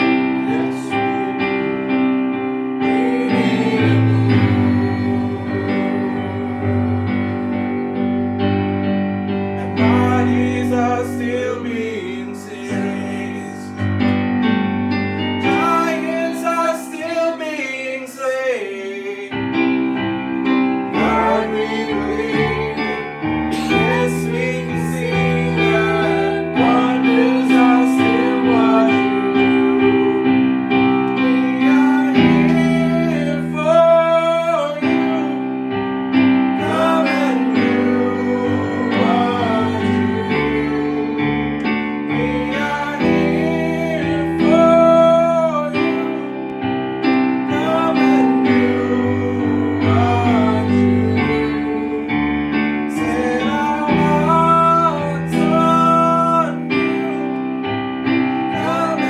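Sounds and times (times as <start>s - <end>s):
person singing: 0.0s - 8.7s, 9.4s - 14.2s, 15.2s - 59.0s
keyboard chords: 0.0s - 59.0s.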